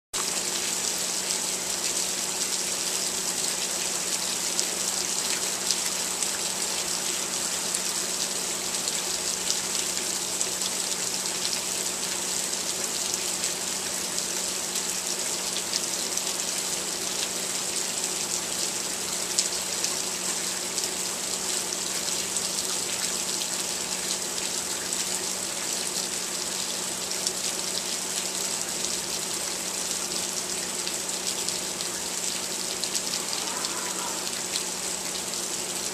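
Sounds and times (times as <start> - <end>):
rain falling: 0.2 - 35.9.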